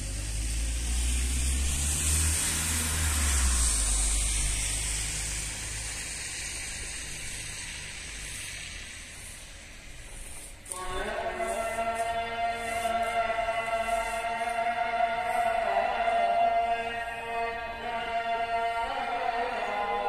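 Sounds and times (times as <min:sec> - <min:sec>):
traffic rumble: 0:00.0 - 0:20.0
tyres hissing on wet road: 0:00.0 - 0:20.0.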